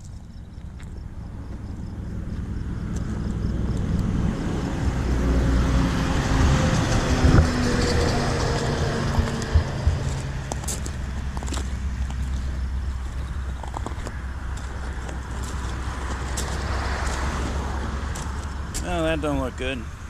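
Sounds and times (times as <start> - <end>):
insects chirping: 0.0 - 20.0
vehicle passing by: 0.8 - 20.0.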